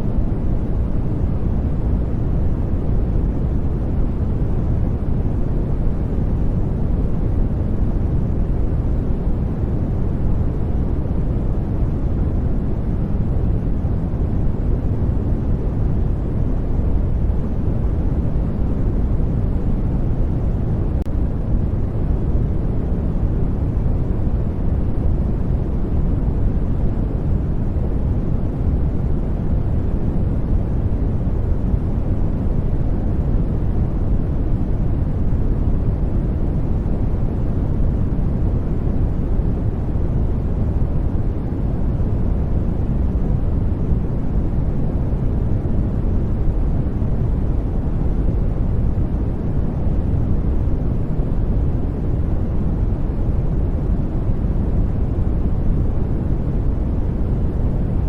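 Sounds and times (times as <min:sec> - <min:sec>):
deep steady noise rush: 0:00.0 - 0:58.0.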